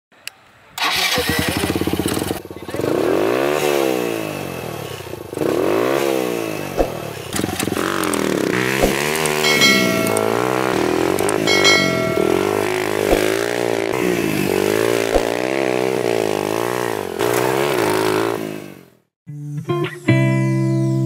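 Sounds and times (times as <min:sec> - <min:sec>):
motorcycle engine revving: 0:00.8 - 0:19.1.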